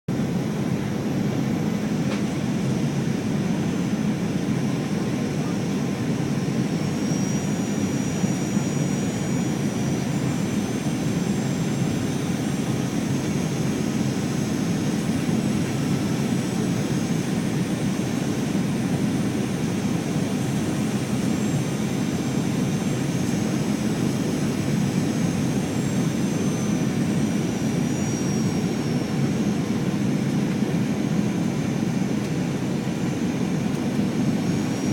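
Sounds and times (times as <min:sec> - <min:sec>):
airplane cabin roar: 0:00.1 - 0:34.9
high jet engine whine: 0:00.1 - 0:34.9.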